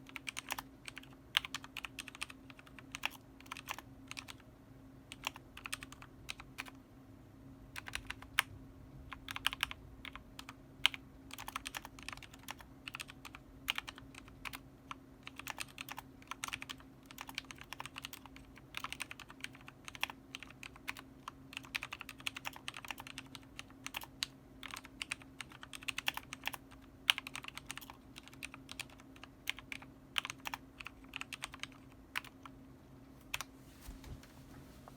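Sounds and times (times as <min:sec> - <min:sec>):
mechanical keyboard typing: 0:00.0 - 0:04.4, 0:05.1 - 0:06.8, 0:07.7 - 0:08.5, 0:09.1 - 0:32.5
faint steady hum: 0:00.0 - 0:34.9.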